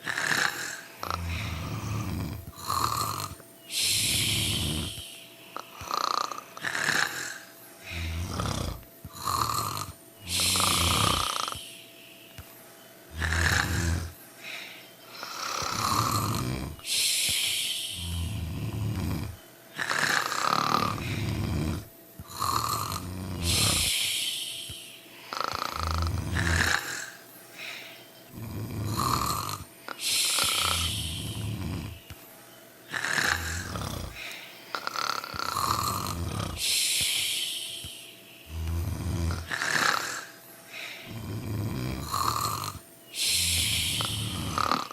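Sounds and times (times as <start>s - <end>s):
hissing wheezy breath: 0.0s - 44.9s
people snoring: 0.0s - 44.9s.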